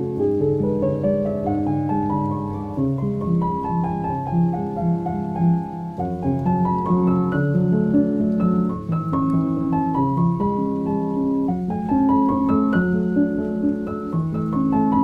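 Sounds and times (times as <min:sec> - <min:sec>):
classical piano music: 0:00.0 - 0:15.0.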